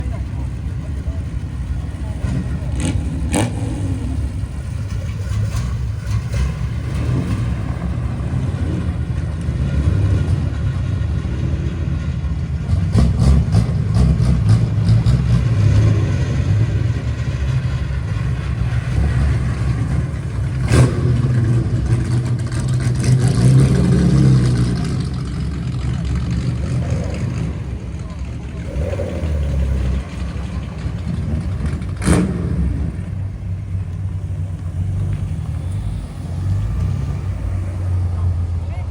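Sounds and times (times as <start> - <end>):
exhaust cracks: 0.0 - 38.6
car engines revving: 0.0 - 38.9.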